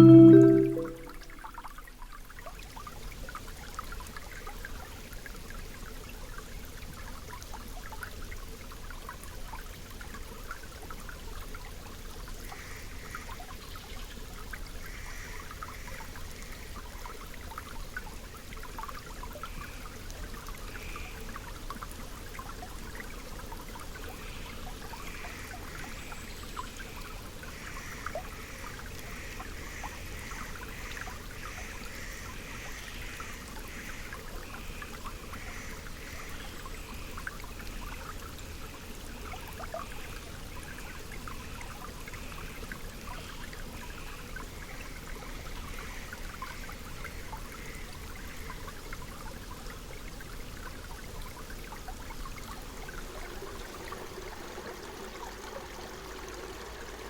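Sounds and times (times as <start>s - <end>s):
stream babbling and trickling: 0.0s - 57.0s.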